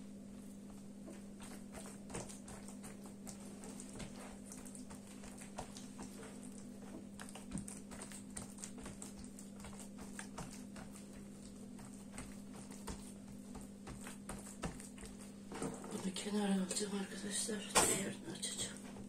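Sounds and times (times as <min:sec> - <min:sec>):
steady low hum: 0:00.0 - 0:19.0
hands patting dough on wood: 0:00.4 - 0:15.8.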